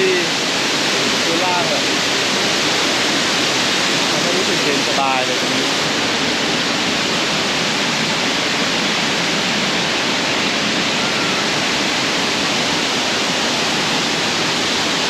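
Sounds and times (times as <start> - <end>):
waterfall rushing onto rocks: 0.0 - 15.0.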